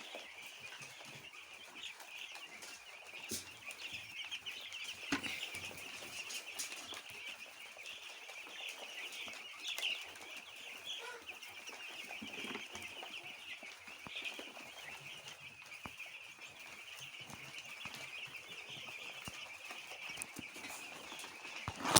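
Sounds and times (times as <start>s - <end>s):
chickens calling and clucking: 0.0s - 21.9s.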